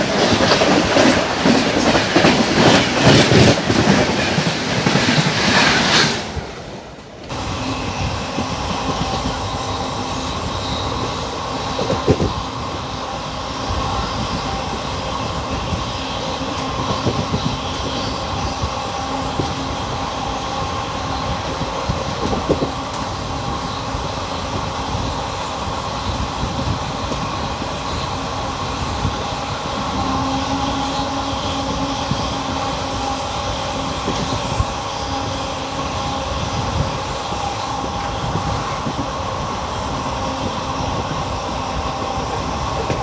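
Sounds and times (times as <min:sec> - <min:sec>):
train humming: 0:00.0 - 0:43.0
train wheels clattering: 0:00.0 - 0:43.0.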